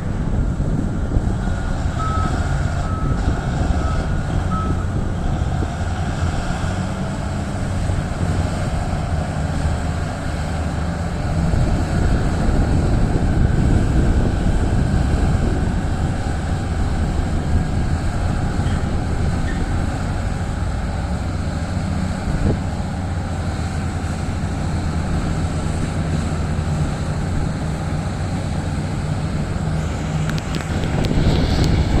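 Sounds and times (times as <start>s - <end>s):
heavy diesel machinery rumbling: 0.0s - 32.0s.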